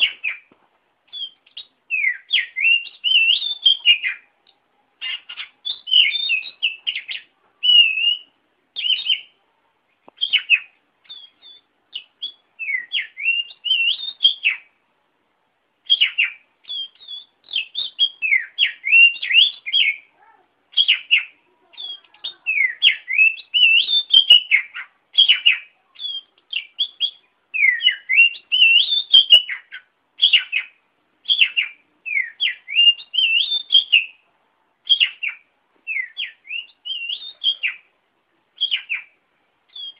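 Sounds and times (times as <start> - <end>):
bird singing whistled phrases: 1.1 - 4.3, 5.0 - 9.4, 10.2 - 14.7, 15.9 - 20.1, 20.7 - 34.2, 34.9 - 37.9, 38.6 - 39.9.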